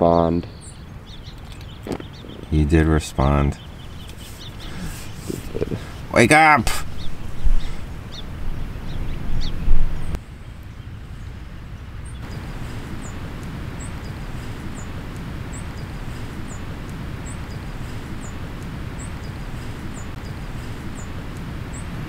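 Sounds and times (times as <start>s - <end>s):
low rumbling bursts: 0.0s - 22.0s
steady low outdoor noise: 0.0s - 22.0s
small bird chirping: 0.4s - 6.2s, 6.8s - 22.0s.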